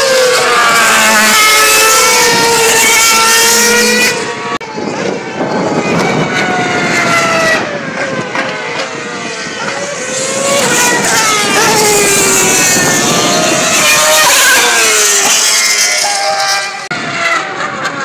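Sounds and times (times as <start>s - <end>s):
racing car engines at high revs: 0.0s - 18.0s.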